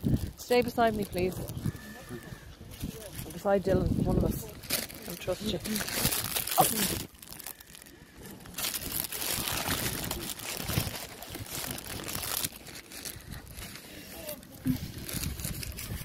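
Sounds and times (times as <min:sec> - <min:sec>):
close crinkling and rustling: 0:00.0 - 0:16.0.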